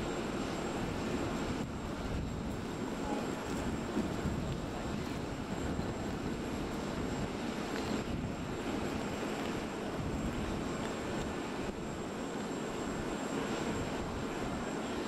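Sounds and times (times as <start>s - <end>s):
aircraft engine rumble: 0.0s - 15.0s
faint high whine: 0.0s - 15.0s.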